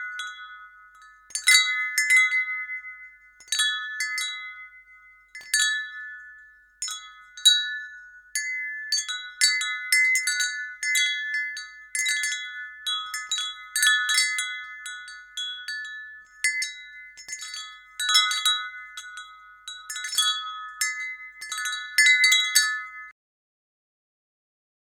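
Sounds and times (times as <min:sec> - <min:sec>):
wind chime ringing: 0:00.0 - 0:23.1.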